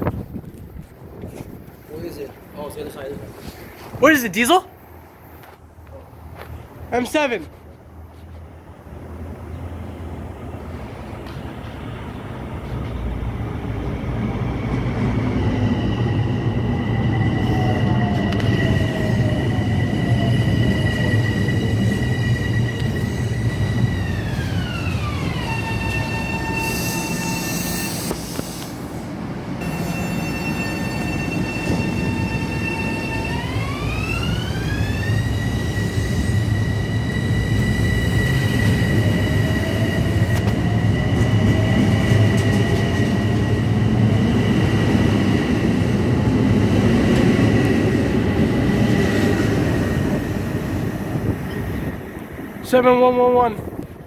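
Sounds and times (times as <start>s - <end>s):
wheels rumbling on rail: 7.6s - 54.0s
electric train propulsion whine: 9.7s - 54.0s.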